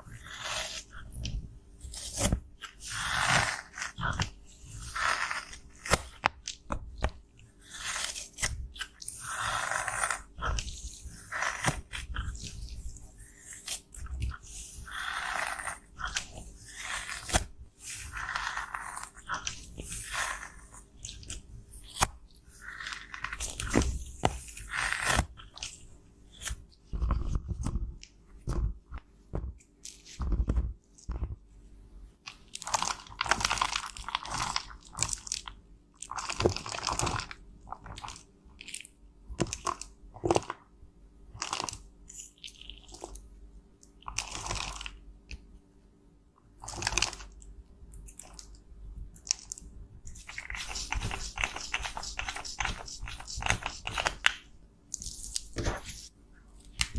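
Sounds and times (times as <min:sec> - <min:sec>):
cosmetics crushing and scraping: 0:00.0 - 0:31.4, 0:32.3 - 0:40.7, 0:44.0 - 0:45.0, 0:46.6 - 0:56.9.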